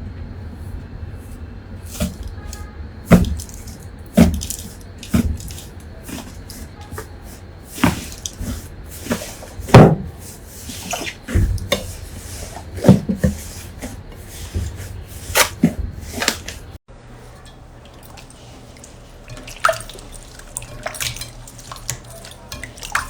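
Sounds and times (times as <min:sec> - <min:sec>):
slime squishing: 0:01.2 - 0:23.0.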